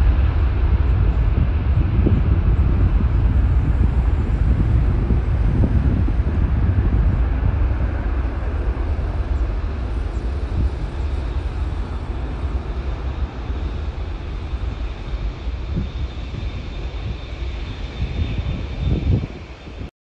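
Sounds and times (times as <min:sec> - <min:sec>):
distant jet engines rumbling: 0:00.0 - 0:19.9.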